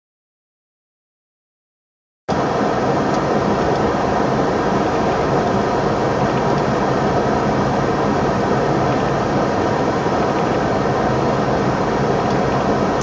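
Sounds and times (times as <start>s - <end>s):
vehicle engine and road noise: 2.3s - 13.0s.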